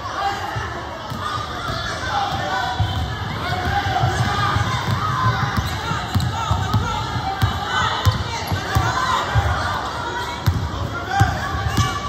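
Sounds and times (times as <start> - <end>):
crowd shouting and cheering: 0.0 - 12.0.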